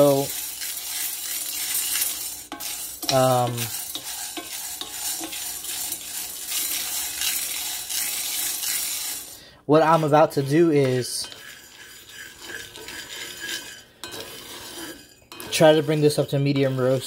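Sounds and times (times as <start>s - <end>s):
coffee beans rattling in skillet: 0.0s - 17.0s.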